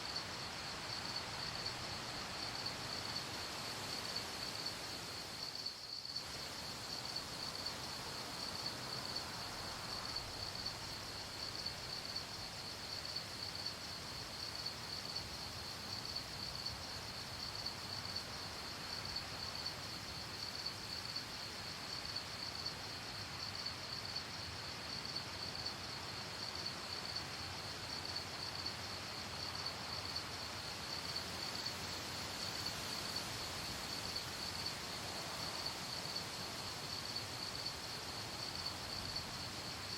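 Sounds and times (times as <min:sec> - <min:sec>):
crickets chirping: 0:00.0 - 0:39.9
faint background hiss: 0:00.0 - 0:39.9.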